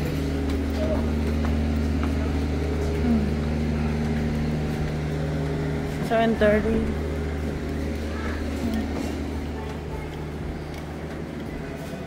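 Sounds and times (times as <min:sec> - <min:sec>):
motorhome engine humming: 0:00.0 - 0:12.0.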